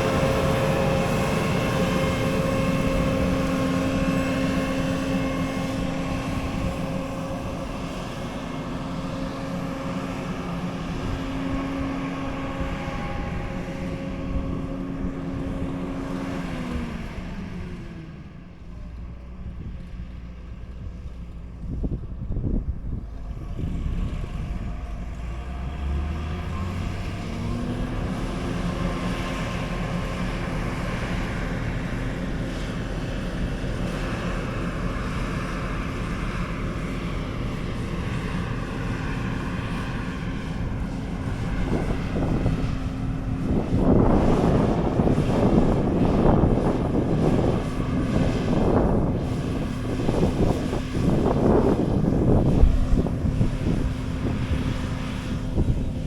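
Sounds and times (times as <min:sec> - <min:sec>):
wind buffeting microphone: 0:00.0 - 0:18.1, 0:20.7 - 0:56.0
large engine running: 0:00.0 - 0:56.0.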